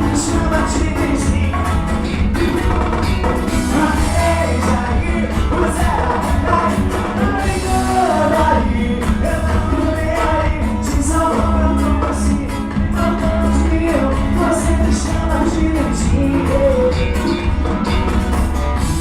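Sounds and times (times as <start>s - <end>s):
person singing: 0.0s - 18.3s
live band party music: 0.0s - 19.0s.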